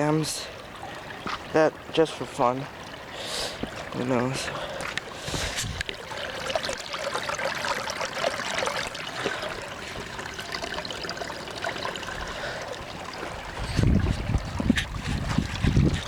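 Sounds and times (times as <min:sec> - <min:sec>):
water trickling through small dam: 0:00.0 - 0:16.0.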